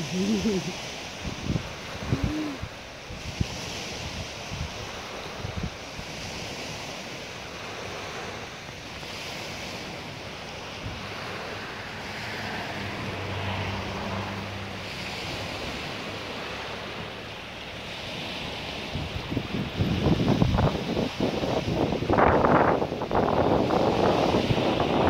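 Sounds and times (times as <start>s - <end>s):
waves breaking on pebble beach: 0.0s - 25.0s
wind rumbling on microphone: 0.0s - 25.0s.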